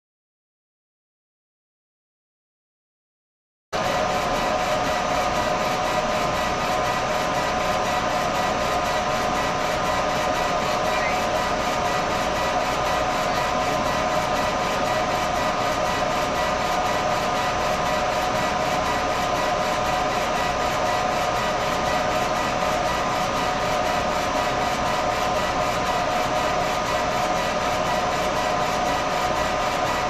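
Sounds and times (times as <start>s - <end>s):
laser engraver running with whine: 3.8s - 30.0s.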